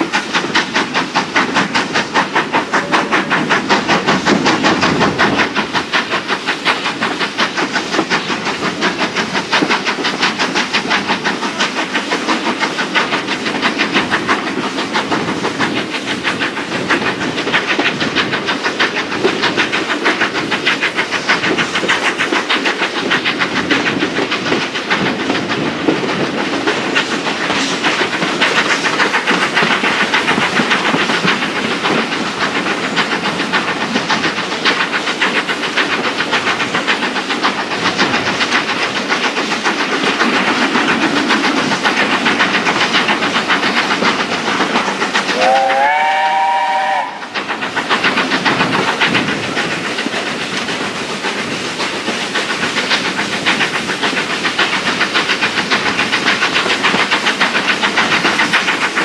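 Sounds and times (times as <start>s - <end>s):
steam hiss: 0.0s - 59.0s
steam locomotive exhaust beat: 0.0s - 59.0s.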